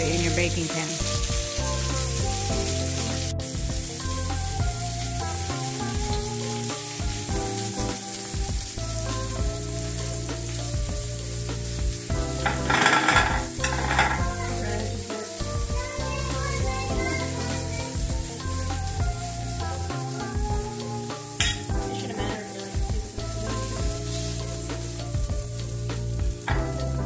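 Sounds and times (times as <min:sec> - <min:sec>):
background music: 0:00.0 - 0:27.0
chicken sizzling in a pan: 0:00.0 - 0:27.0.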